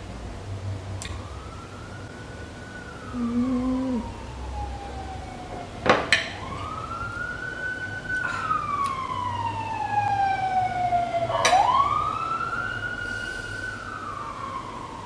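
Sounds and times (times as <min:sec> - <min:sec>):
emergency siren wailing: 0:00.7 - 0:15.0.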